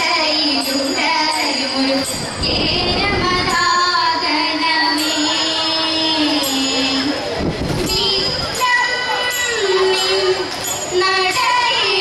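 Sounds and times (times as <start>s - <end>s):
women singing with held notes: 0.0s - 12.0s.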